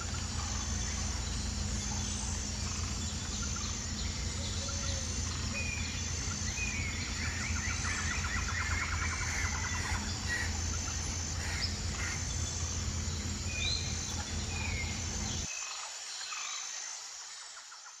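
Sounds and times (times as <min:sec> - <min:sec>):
bird trilling call: 0:00.0 - 0:15.5
birds chirping: 0:00.0 - 0:15.5.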